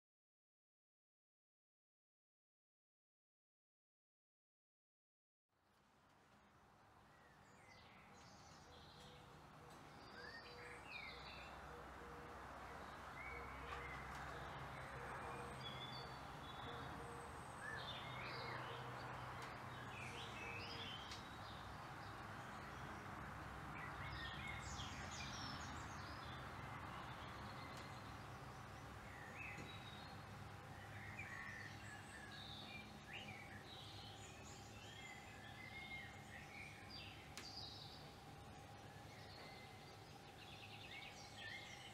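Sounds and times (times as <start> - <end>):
faint steady hum: 5.7 - 41.9
small birds chirping: 7.1 - 41.9.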